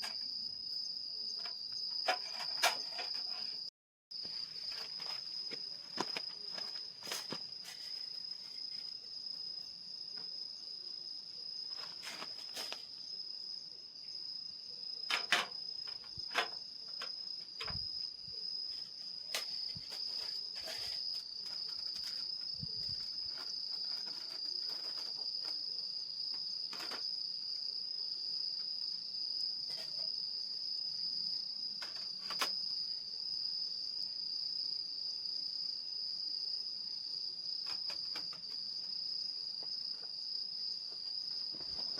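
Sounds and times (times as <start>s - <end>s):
crickets chirring: 0.0s - 41.9s.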